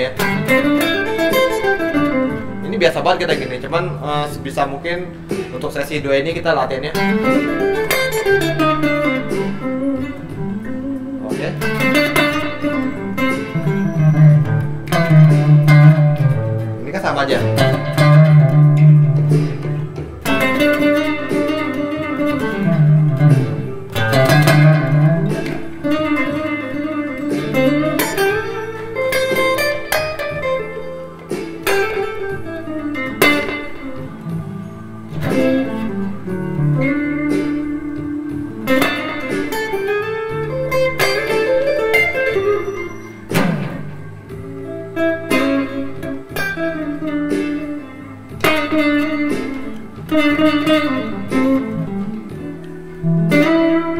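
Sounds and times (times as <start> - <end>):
electric guitar blues licks: 0.0 - 53.9.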